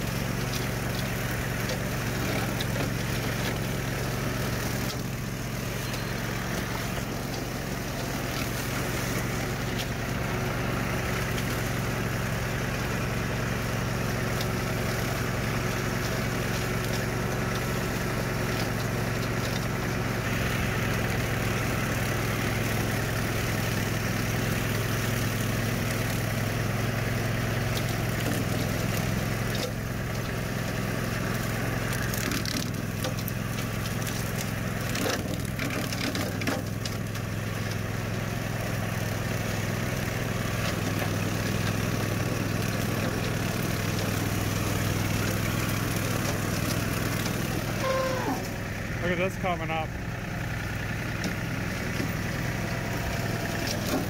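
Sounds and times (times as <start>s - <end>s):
mower cutting brush: 0.0s - 54.0s
tractor engine: 0.0s - 54.0s.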